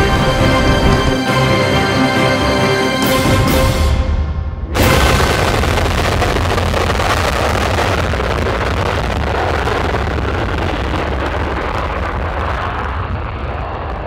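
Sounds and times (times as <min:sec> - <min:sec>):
fighter jet roar: 0:00.0 - 0:14.0.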